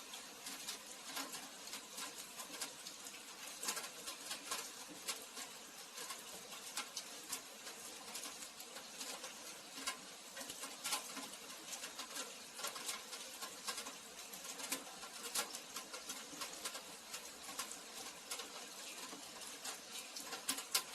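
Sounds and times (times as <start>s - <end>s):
rain falling: 0.0s - 20.9s.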